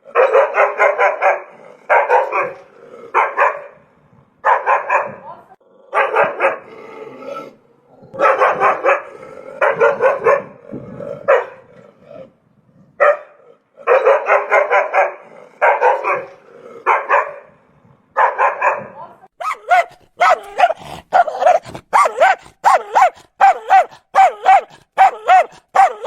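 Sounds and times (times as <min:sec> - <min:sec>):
dog barking: 0:00.0 - 0:05.2, 0:05.9 - 0:06.7, 0:08.1 - 0:11.7, 0:13.0 - 0:17.6, 0:18.2 - 0:26.0.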